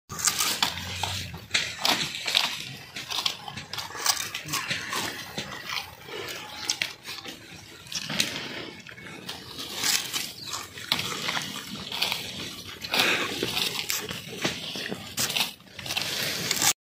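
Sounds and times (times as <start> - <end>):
sugarcane being chewed: 0.1 - 16.8.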